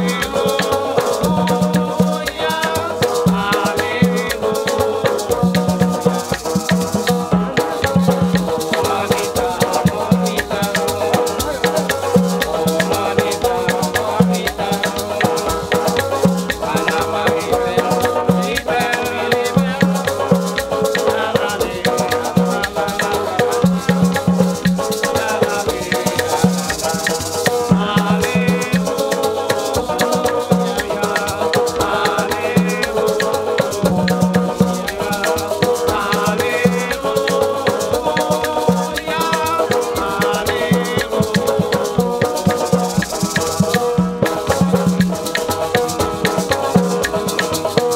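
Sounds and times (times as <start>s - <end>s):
banjo and acoustic guitar strummed: 0.0s - 47.9s
men singing: 0.0s - 47.9s
shaken maraca rhythm: 0.0s - 47.9s.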